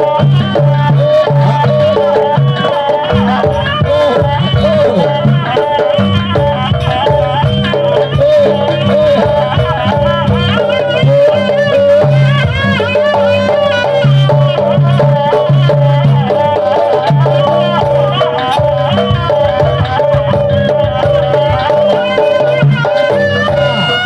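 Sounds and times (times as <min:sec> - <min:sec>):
drumming: 0:00.0 - 0:24.0
reed melody: 0:00.0 - 0:24.0.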